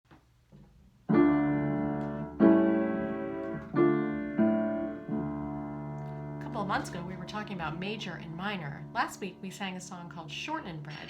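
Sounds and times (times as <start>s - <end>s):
keyboard chords: 1.0s - 10.9s.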